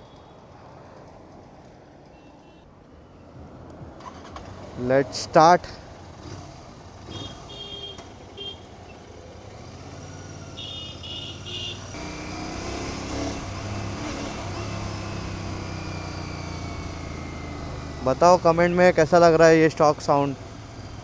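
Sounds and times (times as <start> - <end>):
motorcycle engine revving: 4.0 - 21.0.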